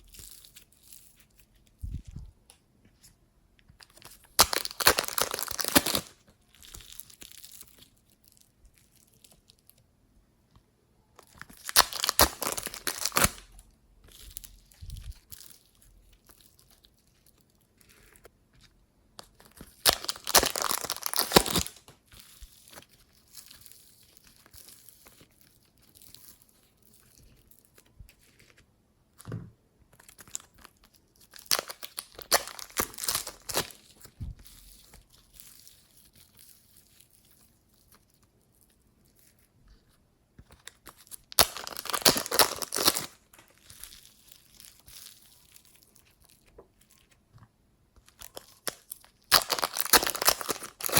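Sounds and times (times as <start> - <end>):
slime crackling and popping: 3.8 - 9.8, 11.2 - 18.3, 19.2 - 28.5, 29.8 - 39.5, 40.3 - 47.3, 48.0 - 50.9.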